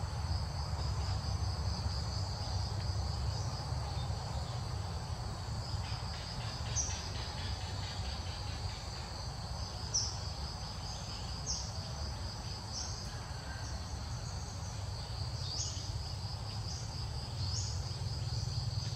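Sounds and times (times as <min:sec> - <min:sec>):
high-pitched insect chorus: 0:00.0 - 0:18.9.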